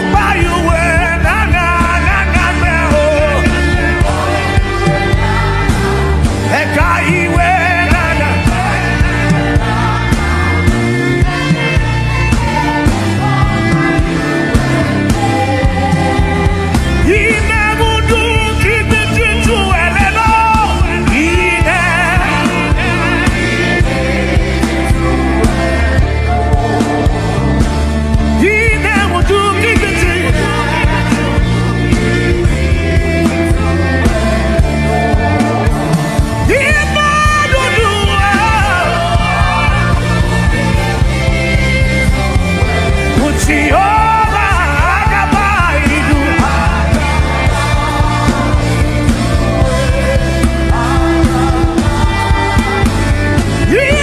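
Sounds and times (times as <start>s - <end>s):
person singing: 0.0s - 27.6s, 28.4s - 54.0s
gospel worship music: 0.0s - 54.0s.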